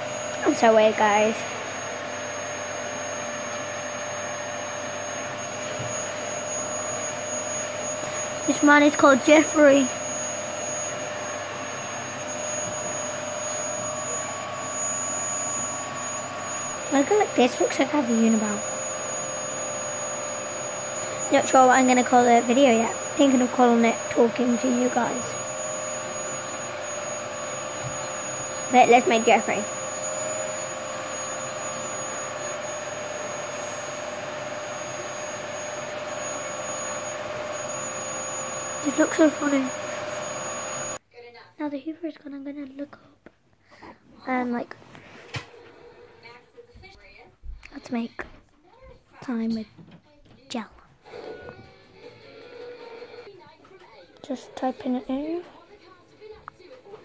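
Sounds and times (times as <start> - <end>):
vacuum cleaner running: 0.0 - 41.0, 44.2 - 47.9, 51.0 - 53.5, 54.1 - 57.0.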